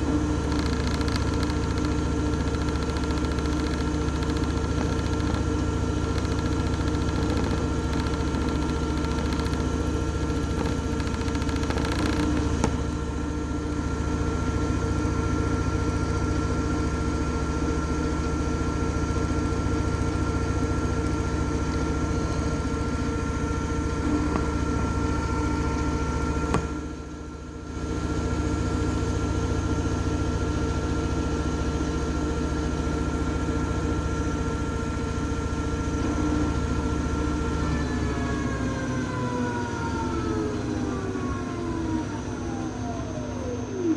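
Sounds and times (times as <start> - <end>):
washing machine motor humming: 0.0 - 43.9.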